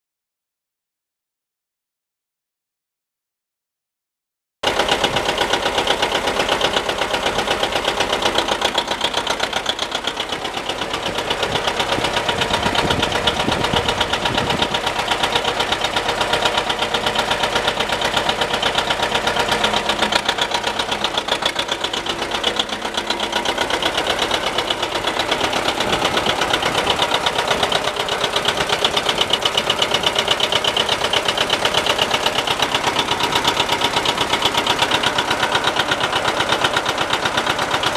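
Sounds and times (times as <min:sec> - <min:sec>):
tractor diesel engine running: 0:04.6 - 0:37.9.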